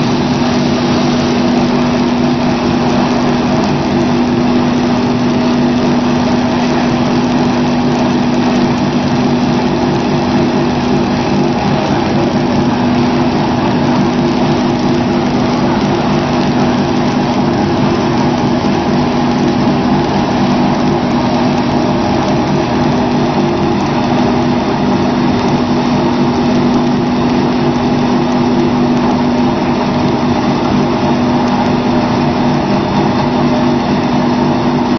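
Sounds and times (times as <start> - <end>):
briquetting machine drone: 0.0 - 34.9.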